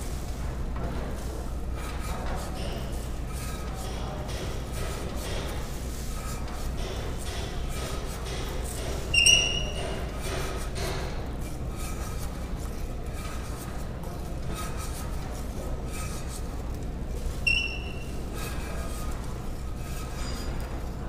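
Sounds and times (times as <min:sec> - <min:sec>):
hand rasp scraping plaster: 0:01.8 - 0:16.6, 0:18.2 - 0:20.6.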